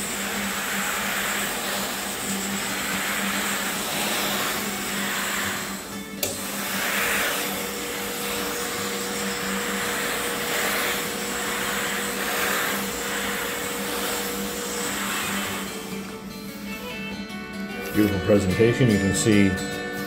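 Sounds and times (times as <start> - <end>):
steam cleaner hissing: 0.0 - 17.1.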